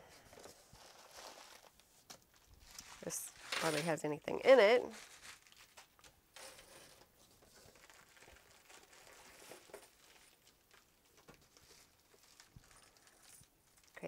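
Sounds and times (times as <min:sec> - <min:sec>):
plastic bag and bubble wrap crinkling: 0:00.0 - 0:14.0.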